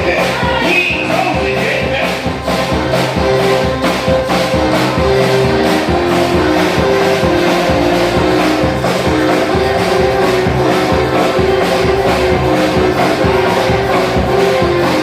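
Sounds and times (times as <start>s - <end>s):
church band music: 0.0s - 15.0s.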